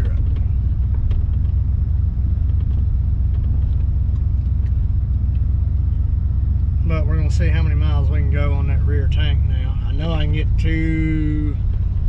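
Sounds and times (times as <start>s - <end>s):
pickup truck engine rumble: 0.0s - 12.0s
road noise: 0.0s - 12.0s.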